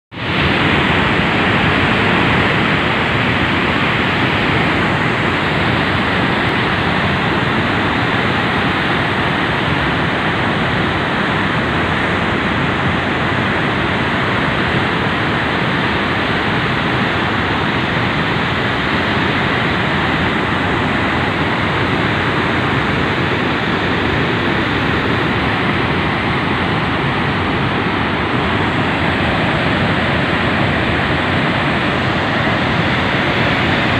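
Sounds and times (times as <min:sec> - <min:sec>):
water rushing through spillway: 0:00.1 - 0:33.9.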